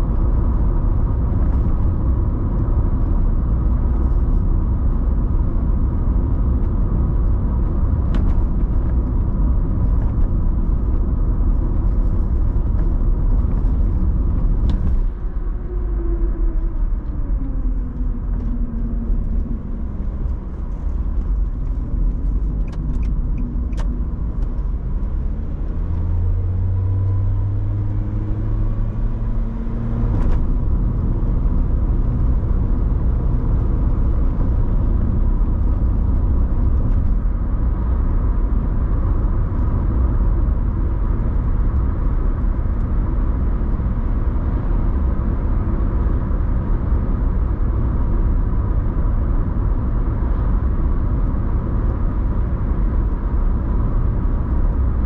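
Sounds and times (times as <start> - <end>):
car engine: 0.0 - 55.0
tyre road rumble: 0.0 - 55.0.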